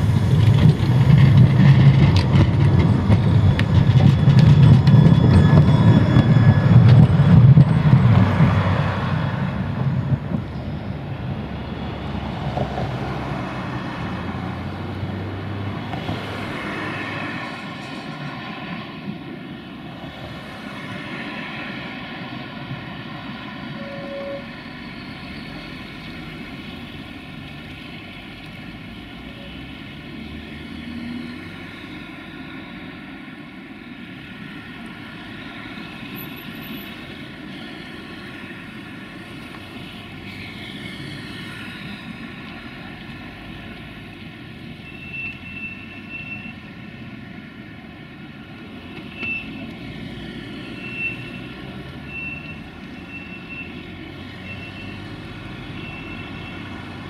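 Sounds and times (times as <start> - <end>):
tram droning hum: 0.0 - 57.0
tram rumbling on rails: 0.0 - 57.0.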